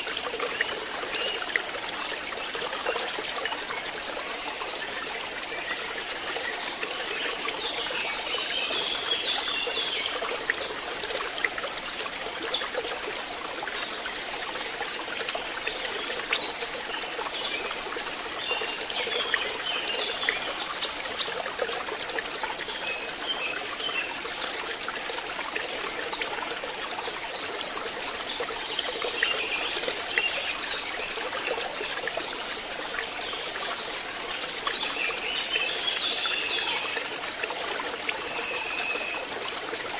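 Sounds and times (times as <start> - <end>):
pond water trickling: 0.0 - 39.9.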